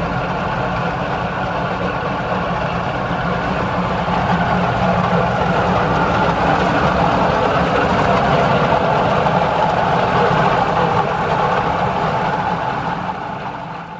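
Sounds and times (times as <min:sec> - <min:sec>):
fan motor humming: 0:00.0 - 0:13.9.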